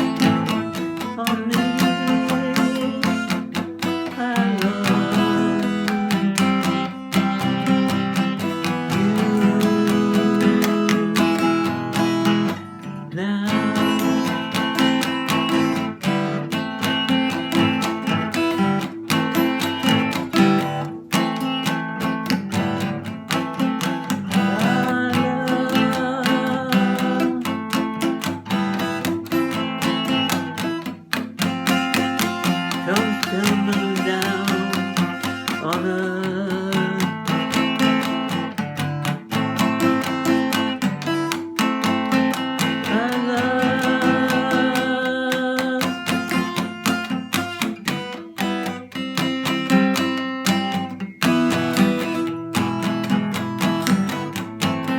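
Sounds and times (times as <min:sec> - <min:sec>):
acoustic guitar strumming: 0:00.0 - 0:54.9.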